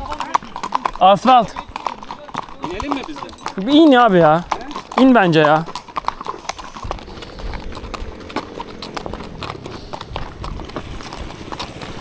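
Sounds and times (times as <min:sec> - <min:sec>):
horse hooves on asphalt: 0:00.0 - 0:12.0.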